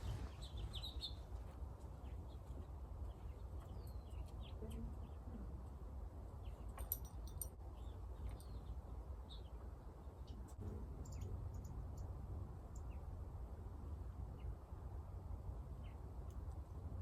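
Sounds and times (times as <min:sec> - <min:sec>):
low steady rumble: 0:00.0 - 0:17.0
small birds chirping faintly: 0:00.0 - 0:17.0.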